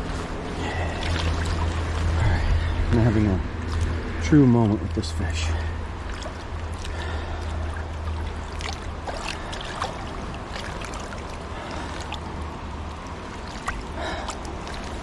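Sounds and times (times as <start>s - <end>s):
small splashes and drips: 0.0s - 2.8s, 3.5s - 15.0s
river water rushing: 0.0s - 4.3s, 5.2s - 15.0s.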